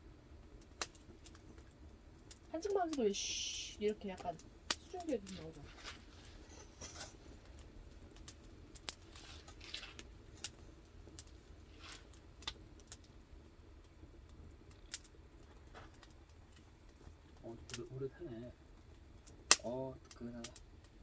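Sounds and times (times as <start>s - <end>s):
firewood crackling: 0.0s - 21.0s
sharp pops of burning wood: 0.0s - 21.0s
soft hiss of steaming wood: 0.0s - 21.0s.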